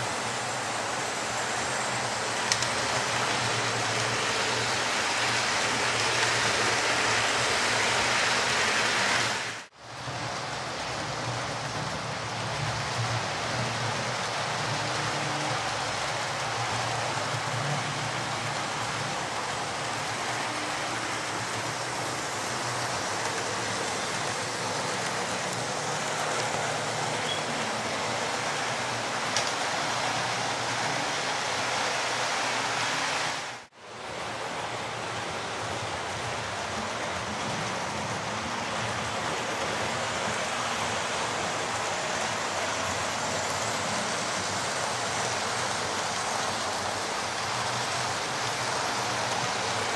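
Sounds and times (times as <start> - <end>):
model train motors whirring: 0.0 - 49.9.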